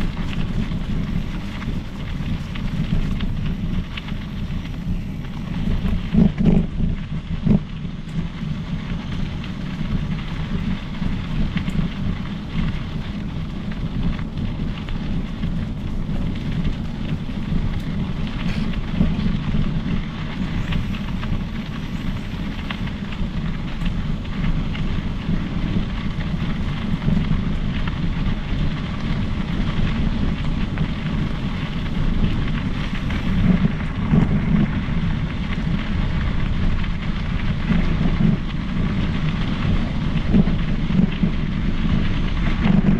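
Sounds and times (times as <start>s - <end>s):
bike tyres rolling on trail: 0.0s - 42.9s
small ticks and rattles: 0.0s - 42.9s
wind on microphone: 0.0s - 42.9s.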